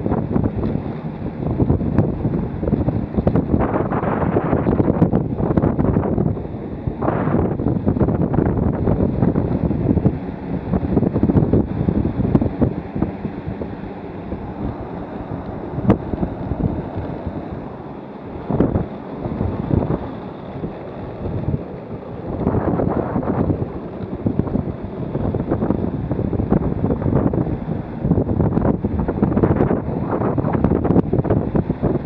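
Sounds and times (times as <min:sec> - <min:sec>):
wheels rolling on asphalt: 0:00.0 - 0:32.0
wind buffeting microphone: 0:00.0 - 0:32.0.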